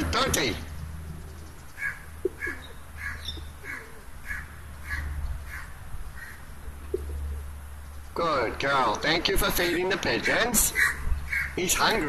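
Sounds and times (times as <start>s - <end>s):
bird calling: 0.0s - 12.0s
low background hum: 0.0s - 12.0s.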